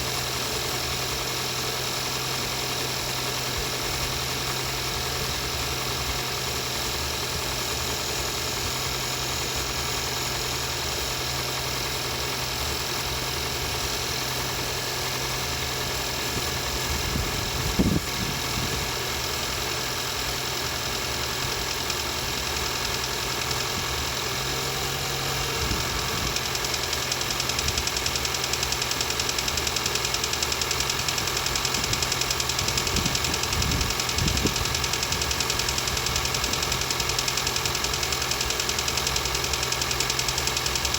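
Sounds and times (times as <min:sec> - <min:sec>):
car engine knocking: 0:00.0 - 0:40.9
loud engine knock: 0:06.2 - 0:40.9.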